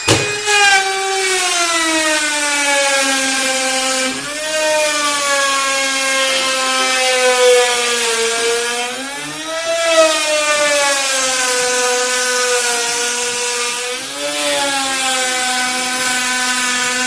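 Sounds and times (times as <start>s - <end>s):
power tool motor whine: 0.0s - 17.0s.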